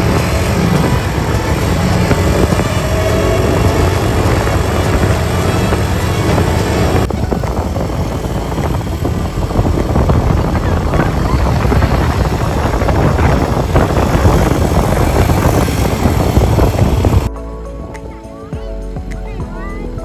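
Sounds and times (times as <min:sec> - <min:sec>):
quad bike engine running: 0:00.0 - 0:17.3
wind buffeting microphone: 0:00.0 - 0:17.3.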